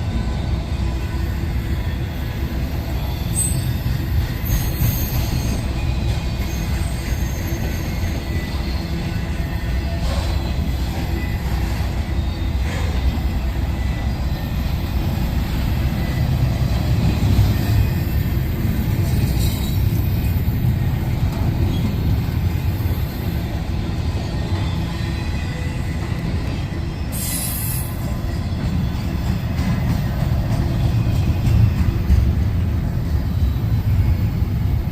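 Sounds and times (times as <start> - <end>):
high wheel squeal: 0.0 - 29.2
train rumbling on track: 0.0 - 34.9.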